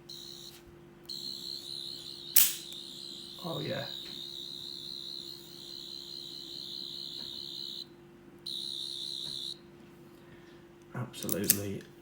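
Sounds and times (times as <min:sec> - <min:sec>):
electronic whine: 0:00.0 - 0:09.6.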